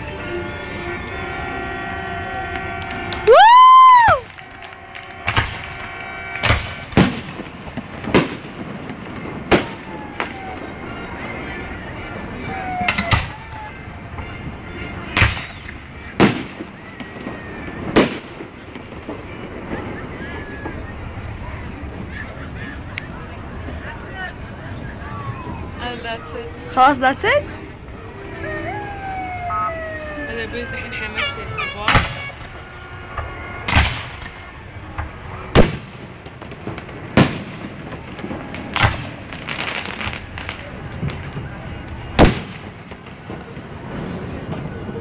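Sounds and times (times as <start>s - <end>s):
fireworks booming: 0.1s - 45.0s
fireworks popping and crackling: 0.1s - 45.0s.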